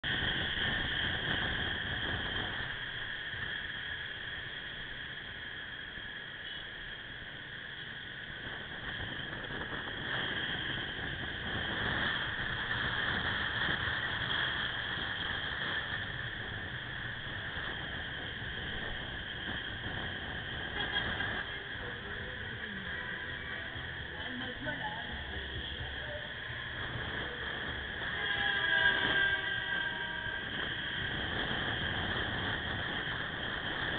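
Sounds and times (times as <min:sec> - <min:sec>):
high-pitched whine: 0:00.0 - 0:33.9
wind and road noise: 0:00.0 - 0:33.9.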